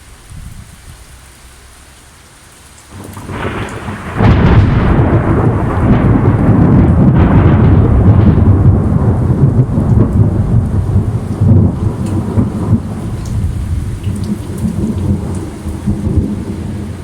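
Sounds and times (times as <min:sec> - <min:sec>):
rushing wind: 0:00.0 - 0:01.4, 0:02.9 - 0:17.0
heavy rain: 0:00.0 - 0:17.0
low rumble: 0:03.2 - 0:17.0.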